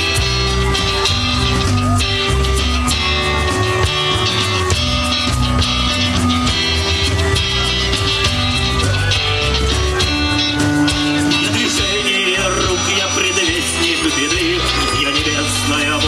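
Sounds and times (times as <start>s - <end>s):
drum kit: 0.0s - 16.0s
electric guitar: 0.0s - 16.0s.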